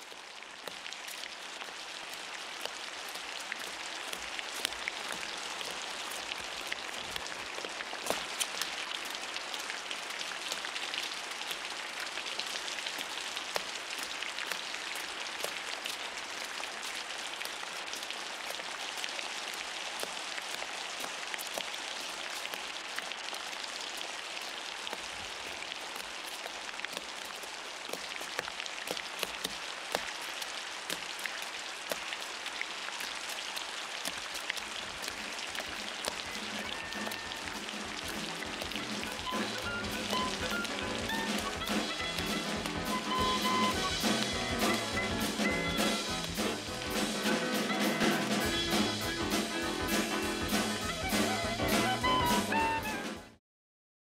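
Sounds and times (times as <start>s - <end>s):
heavy rain on paving: 0.0s - 53.4s.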